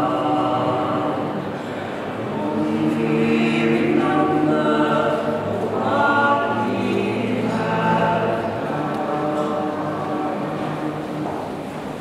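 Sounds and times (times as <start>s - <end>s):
vocal quartet singing a cappella: 0.0s - 11.6s.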